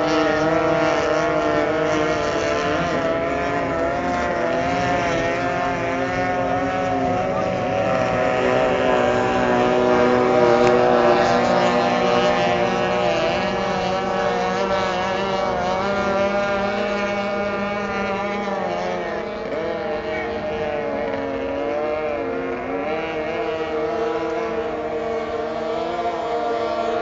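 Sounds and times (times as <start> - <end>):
racing outboard motors: 0.0 - 27.0.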